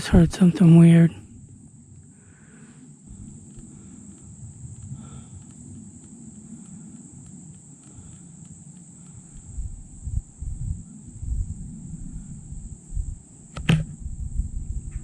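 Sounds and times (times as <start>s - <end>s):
insect trilling: 0.0s - 13.5s
low rumble of wind: 0.0s - 15.0s.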